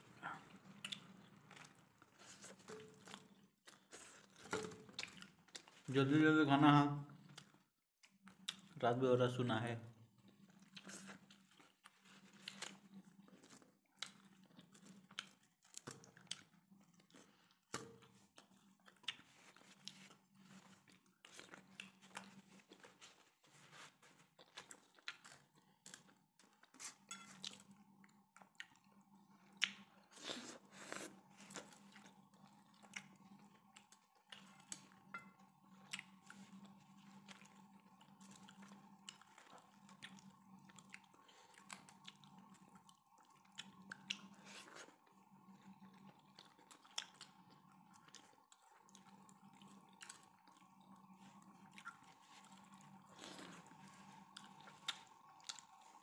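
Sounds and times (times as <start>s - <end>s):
chewing and crunching food: 0.0s - 56.0s
faint steady hum: 0.0s - 56.0s.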